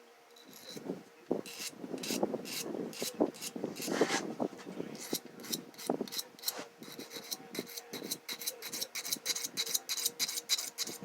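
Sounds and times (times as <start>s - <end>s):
metal rasping on sharpening stone: 0.4s - 0.8s, 1.4s - 4.0s, 5.0s - 11.0s.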